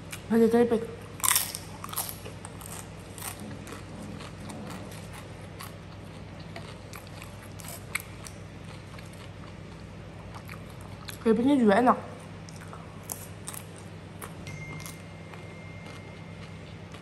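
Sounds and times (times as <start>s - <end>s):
steady low hum: 0.0s - 17.0s
chewing crunchy chips: 1.1s - 11.3s, 12.4s - 17.0s.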